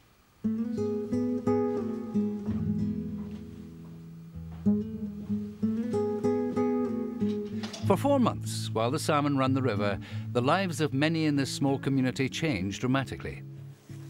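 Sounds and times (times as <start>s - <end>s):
acoustic guitar music: 0.4s - 14.0s.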